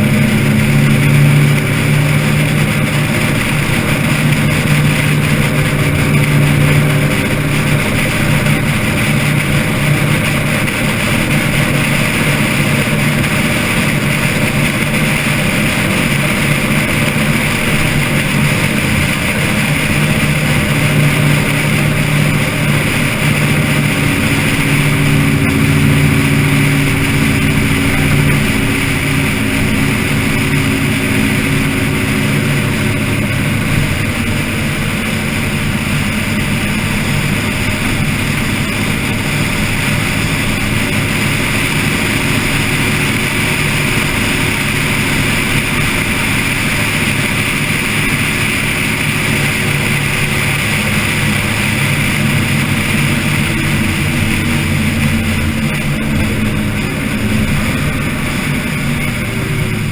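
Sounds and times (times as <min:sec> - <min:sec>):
car engine running: 0:00.0 - 0:59.9
wind and road noise: 0:00.0 - 0:59.9.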